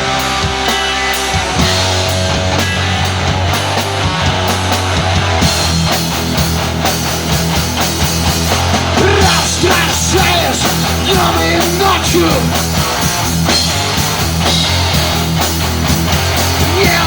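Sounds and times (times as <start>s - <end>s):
rock band playing instrumental: 0.0s - 17.0s.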